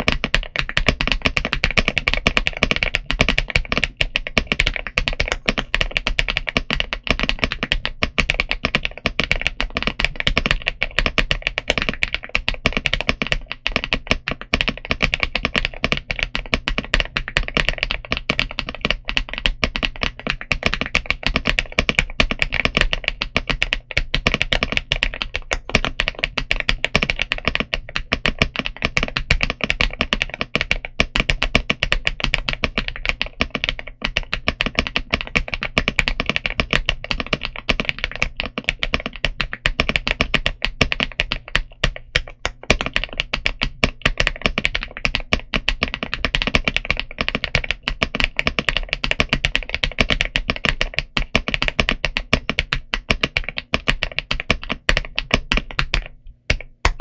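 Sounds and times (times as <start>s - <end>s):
fast typing on mechanical keyboard: 0.0s - 57.0s.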